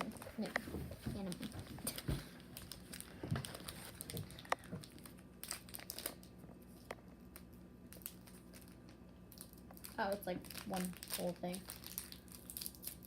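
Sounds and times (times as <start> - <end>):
plastic wrapper crinkling and tearing: 1.1 - 13.0.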